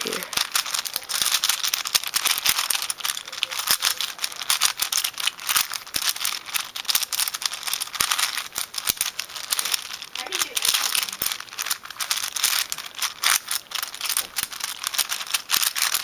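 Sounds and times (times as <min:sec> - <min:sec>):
puzzle cube clicking and rattling: 0:00.0 - 0:16.0.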